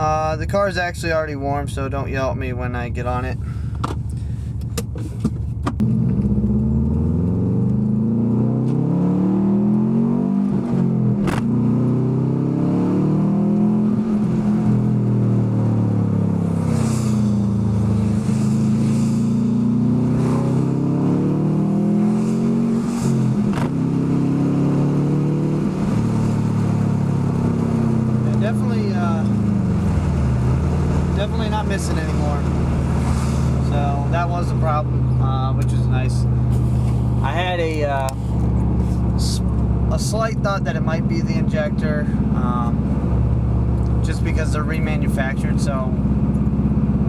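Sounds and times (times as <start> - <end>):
car engine accelerating hard: 3.0 - 47.0.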